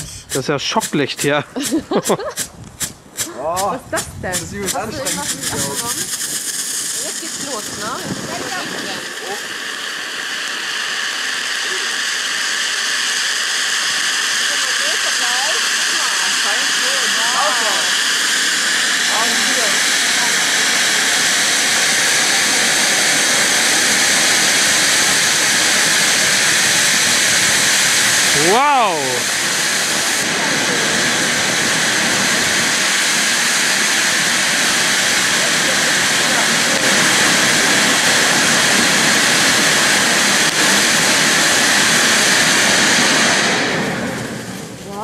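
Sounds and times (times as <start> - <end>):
firework fountain hissing: 0.0 - 45.0.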